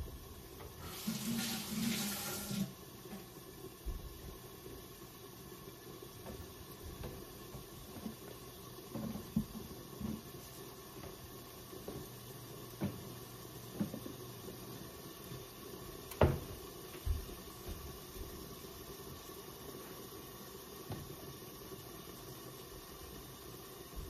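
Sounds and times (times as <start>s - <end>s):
fish sizzling in a skillet: 0.4s - 24.0s.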